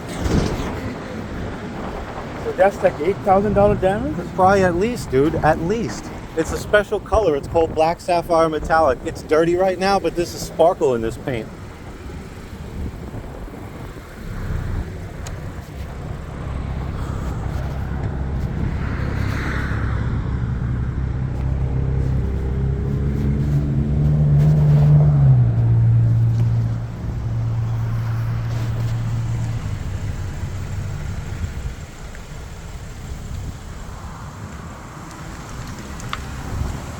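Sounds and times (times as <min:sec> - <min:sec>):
motor vehicle engine humming: 0:00.0 - 0:36.9.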